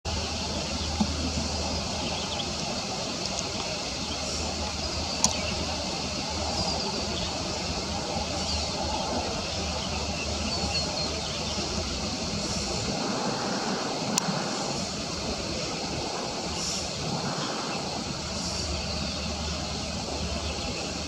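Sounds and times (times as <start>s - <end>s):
outdoor rumble and hiss: 0.1s - 21.0s.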